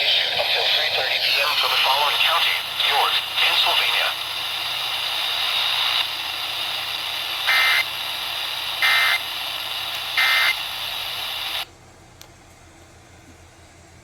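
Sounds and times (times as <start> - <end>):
radio hiss: 0.0 - 11.7.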